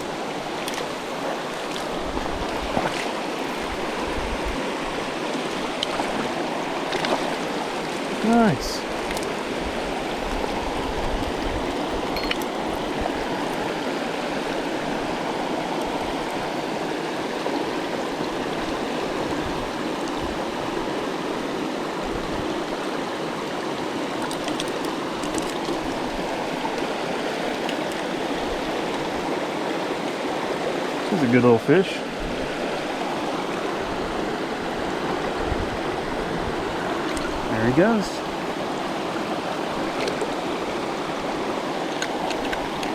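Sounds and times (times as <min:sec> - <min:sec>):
creek water rushing: 0:00.0 - 0:42.9.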